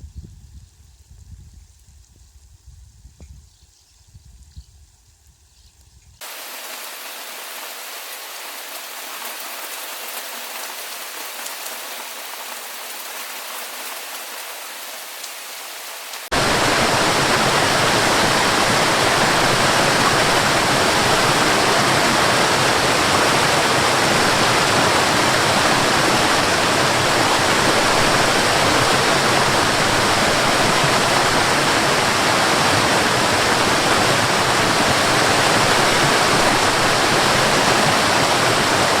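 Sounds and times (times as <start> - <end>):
heavy rain hissing: 6.2 - 39.0.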